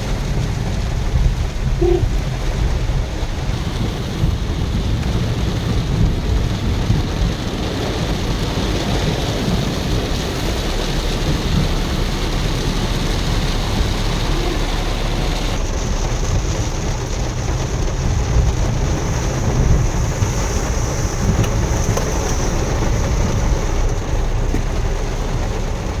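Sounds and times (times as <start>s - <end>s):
heavy rain pouring: 0.0s - 26.0s
low rumble: 0.0s - 26.0s.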